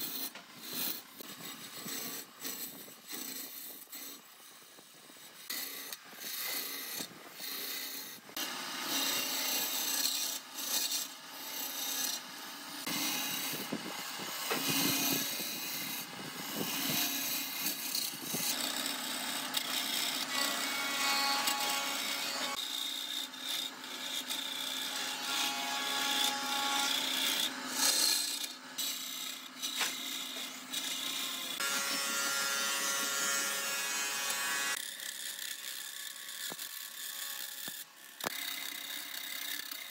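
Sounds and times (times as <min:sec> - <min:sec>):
tool rasping against wood: 0:00.0 - 0:39.9.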